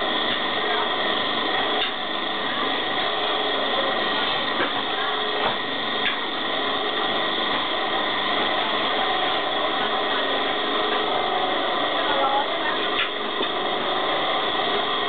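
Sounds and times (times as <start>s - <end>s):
electric coconut grater whirring: 0.0s - 15.0s.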